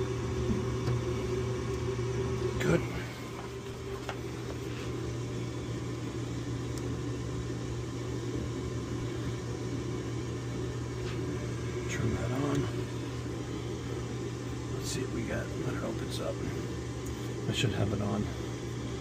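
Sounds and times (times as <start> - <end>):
furnace low mechanical hum: 0.0 - 19.0.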